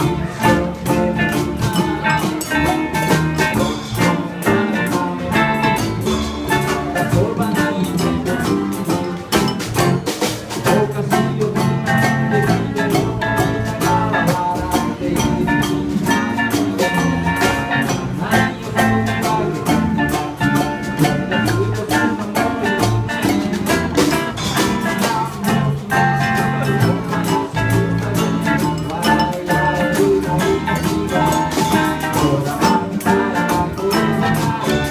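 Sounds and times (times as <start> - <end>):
acoustic guitars: 0.0 - 34.9
strummed ukuleles: 0.0 - 34.9
upright bass: 0.0 - 34.9.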